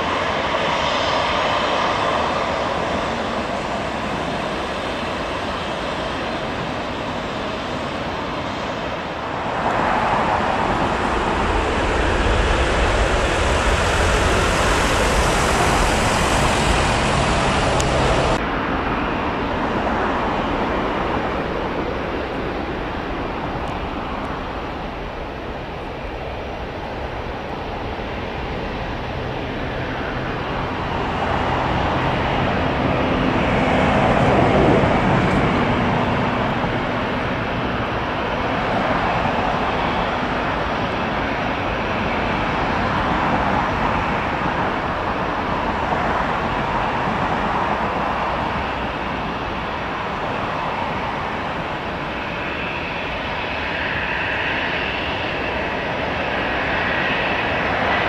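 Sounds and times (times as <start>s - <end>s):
high engine whine: 0.0s - 58.0s
jet engines running: 0.0s - 58.0s.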